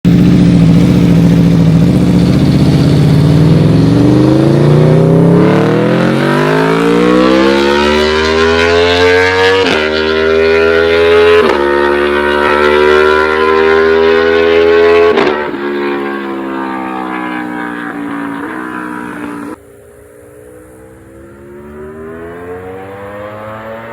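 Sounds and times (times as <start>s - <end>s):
motorcycle engine revving: 0.1s - 23.9s.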